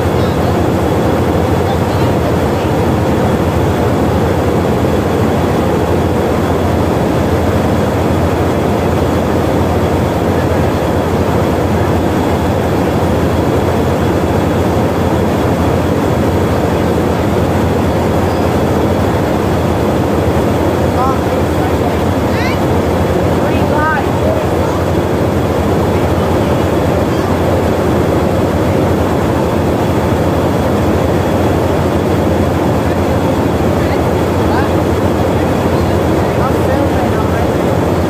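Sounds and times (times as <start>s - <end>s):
diesel locomotive engine idling: 0.0s - 38.0s.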